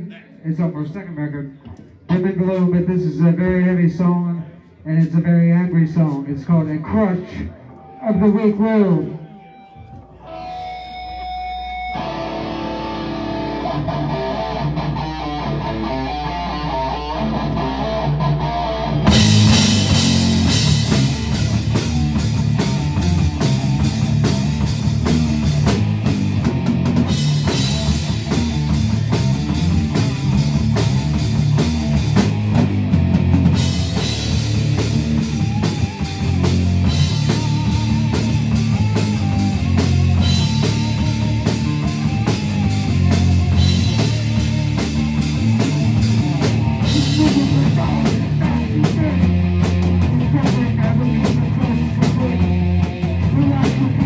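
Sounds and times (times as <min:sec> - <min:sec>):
quiet guitar intro: 0:09.4 - 0:54.0
live heavy metal band: 0:10.2 - 0:54.0.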